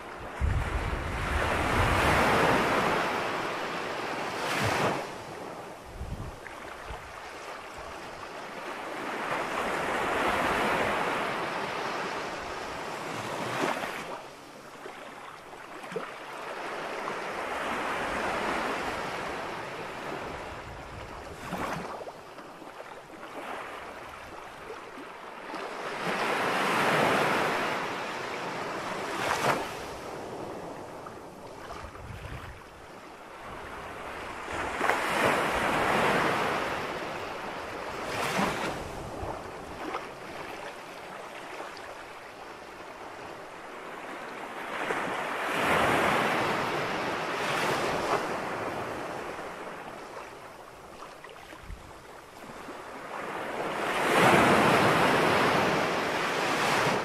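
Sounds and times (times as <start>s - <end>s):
ocean waves washing on beach: 0.0s - 57.0s.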